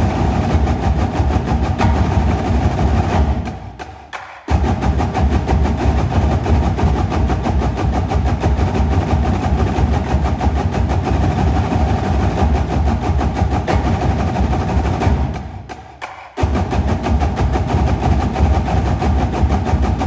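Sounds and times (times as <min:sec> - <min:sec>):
marching drumline: 0:00.0 - 0:20.0.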